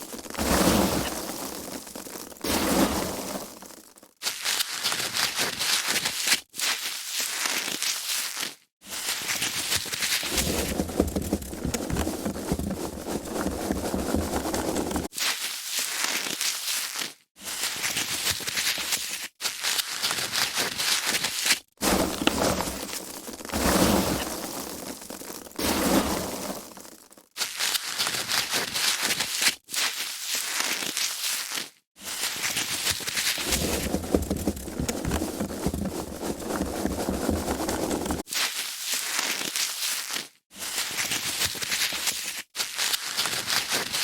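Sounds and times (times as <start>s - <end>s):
foam packaging crinkling: 0.0s - 44.0s.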